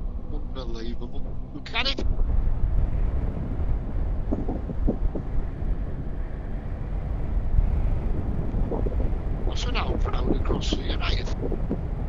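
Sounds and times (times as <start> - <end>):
motorcycle engine rumble: 0.0 - 12.0
wind noise on microphone: 0.0 - 12.0.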